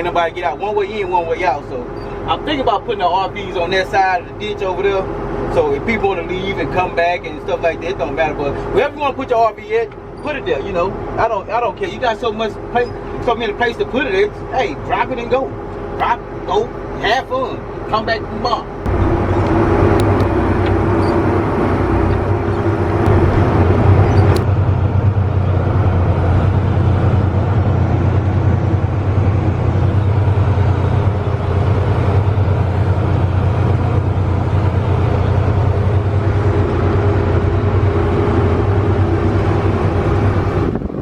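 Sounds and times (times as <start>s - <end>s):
combine harvester engine hum: 0.0s - 41.0s.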